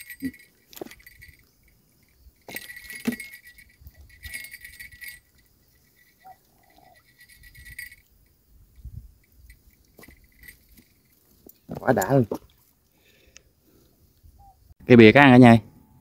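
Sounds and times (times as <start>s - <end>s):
light metallic jingling: 0.0s - 13.2s.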